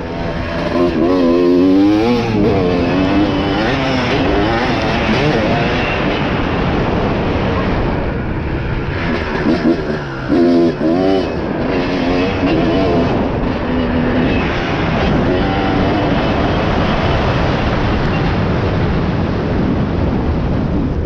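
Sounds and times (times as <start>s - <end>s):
dirt bike engine revving: 0.0s - 7.7s, 8.8s - 18.1s
steady rushing noise: 0.0s - 21.0s.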